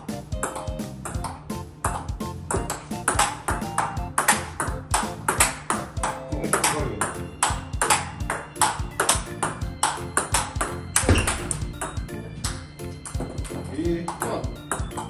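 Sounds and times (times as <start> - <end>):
background music: 0.0 - 15.0
ball bouncing on table: 0.4 - 15.0
ball clicking off rackets: 0.4 - 15.0.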